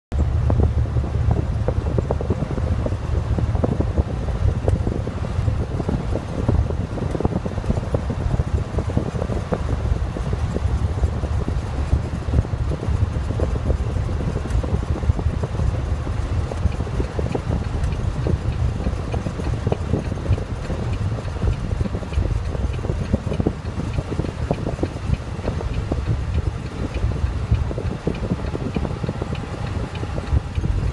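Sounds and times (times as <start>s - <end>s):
road and wind noise: 0.1s - 30.9s
truck engine drone: 0.1s - 30.9s.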